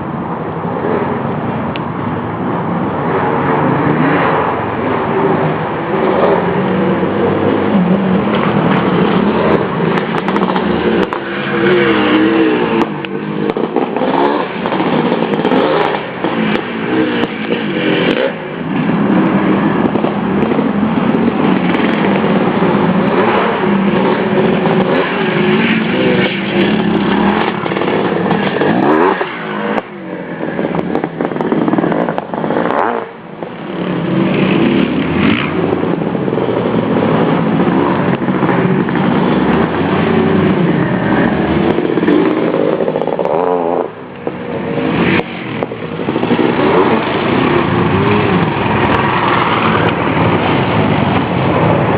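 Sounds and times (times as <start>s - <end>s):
dirt bike engine revving: 3.0s - 51.9s.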